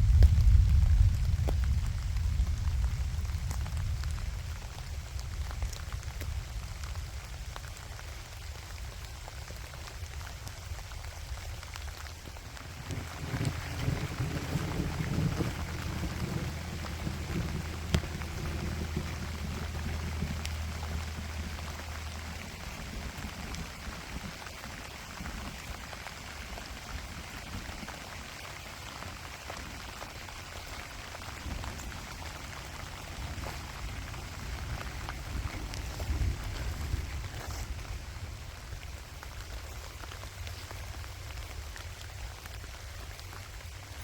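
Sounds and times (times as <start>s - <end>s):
gentle rain patter: 0.0s - 44.0s
low steady hum: 0.0s - 44.0s.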